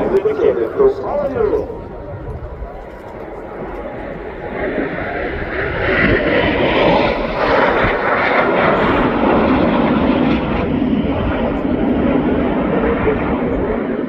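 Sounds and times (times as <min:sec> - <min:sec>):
aircraft flying by: 0:00.0 - 0:14.0.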